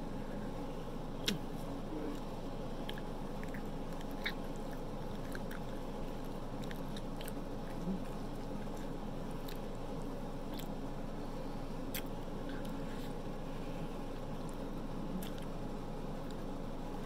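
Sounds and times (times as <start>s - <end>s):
steady background noise: 0.0s - 17.0s
person chewing: 1.2s - 11.0s, 11.8s - 17.0s.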